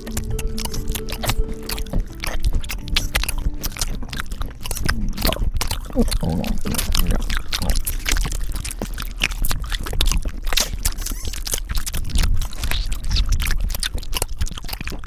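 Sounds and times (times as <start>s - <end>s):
man chewing loudly: 0.0s - 15.0s.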